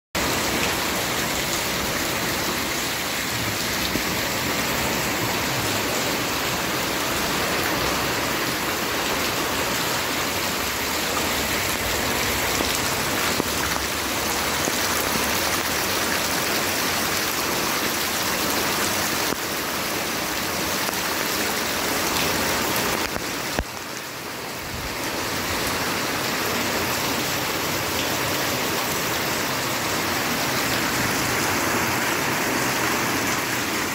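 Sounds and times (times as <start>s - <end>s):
heavy rain falling: 0.2s - 33.9s
rainwater running and splashing: 0.2s - 33.9s.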